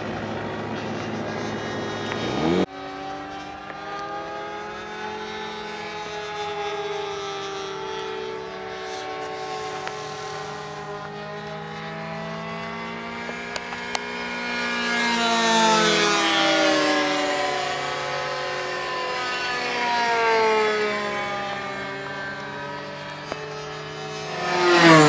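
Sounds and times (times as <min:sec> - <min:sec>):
model airplane engine flying past: 0:00.0 - 0:25.0.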